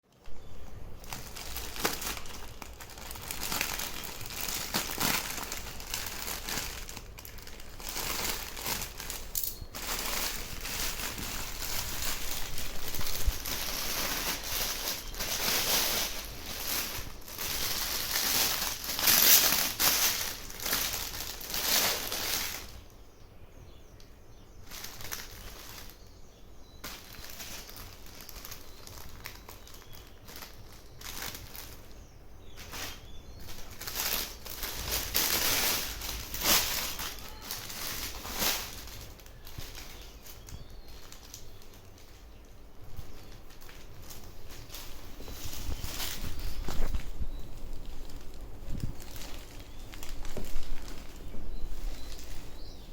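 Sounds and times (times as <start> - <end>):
packaging crinkling and rustling: 0.2 - 22.9, 24.6 - 52.9.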